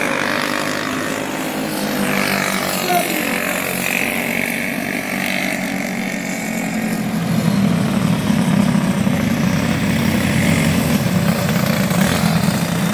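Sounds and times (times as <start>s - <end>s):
kart engines running at speed: 0.0s - 12.9s.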